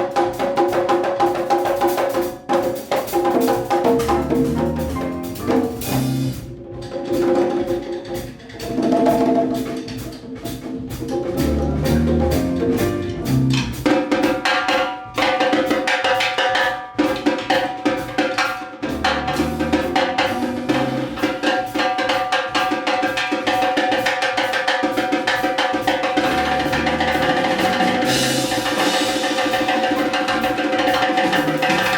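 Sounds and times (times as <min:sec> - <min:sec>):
latin jazz band playing: 0:00.0 - 0:15.8, 0:17.5 - 0:24.1, 0:24.9 - 0:31.9
busy drumming: 0:00.0 - 0:31.9.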